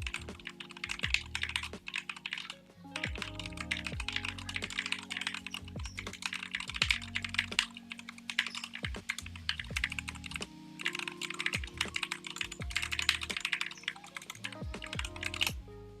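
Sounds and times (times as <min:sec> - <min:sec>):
mechanical keyboard typing: 0:00.0 - 0:15.5.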